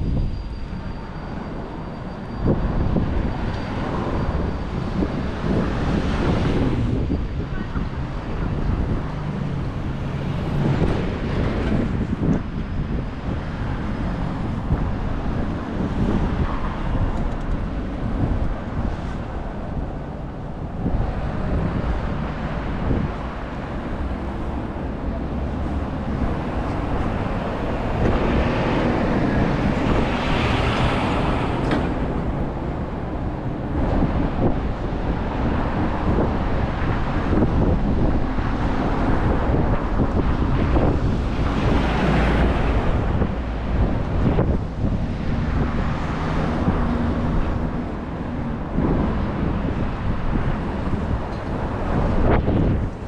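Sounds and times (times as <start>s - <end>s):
city street traffic: 0.0s - 53.0s
wind buffeting microphone: 0.0s - 53.0s.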